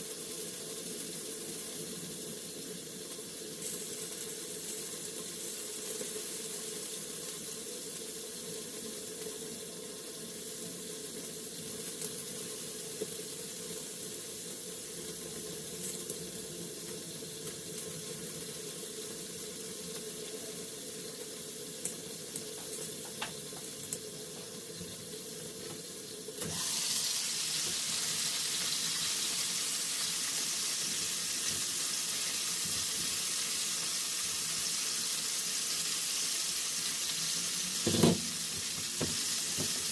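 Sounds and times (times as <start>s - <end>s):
chicken frying in a pan: 0.0s - 39.9s.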